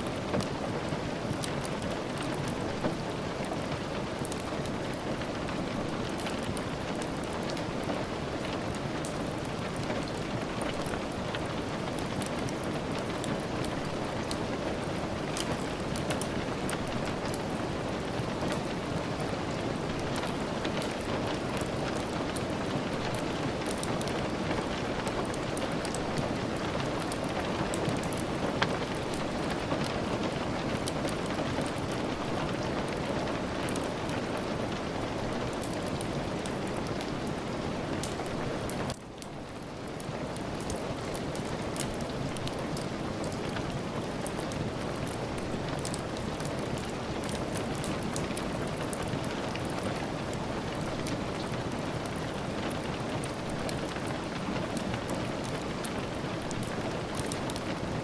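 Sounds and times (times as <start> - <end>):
steady rain: 0.0 - 58.0
wood fire crackling and popping: 0.0 - 58.0.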